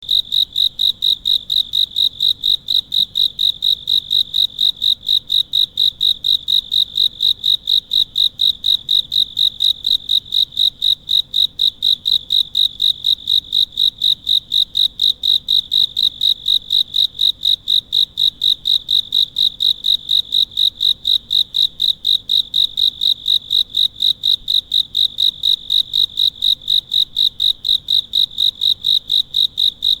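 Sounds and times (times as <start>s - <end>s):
insect chirping: 0.1s - 30.0s.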